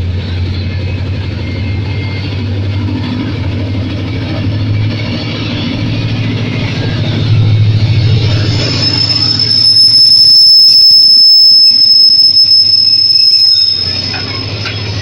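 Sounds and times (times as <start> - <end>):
locomotive engine droning: 0.0 - 15.0.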